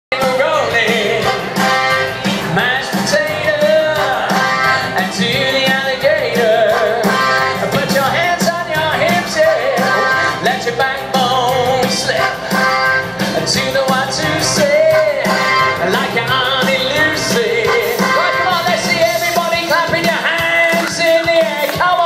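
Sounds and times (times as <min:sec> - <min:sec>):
live band with singer: 0:00.1 - 0:22.0.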